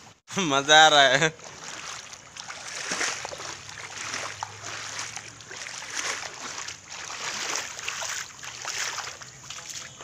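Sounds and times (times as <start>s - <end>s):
footsteps splashing through water: 1.3s - 10.0s.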